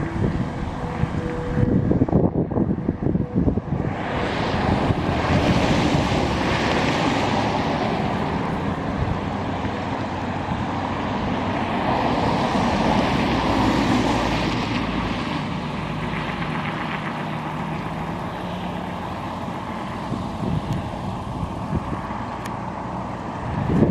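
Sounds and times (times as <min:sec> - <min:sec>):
distant warning sirens: 0:00.0 - 0:23.9
wind noise on microphone: 0:00.0 - 0:23.9.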